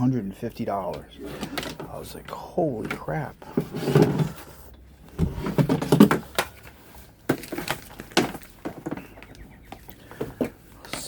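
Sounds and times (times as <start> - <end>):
rattling of handled objects: 0.6 - 11.0.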